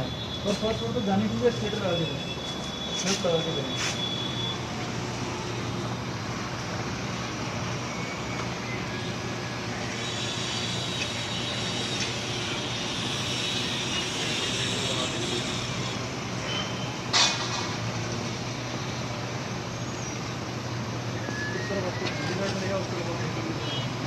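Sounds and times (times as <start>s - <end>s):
continuous rumble and hiss: 0.0s - 24.0s.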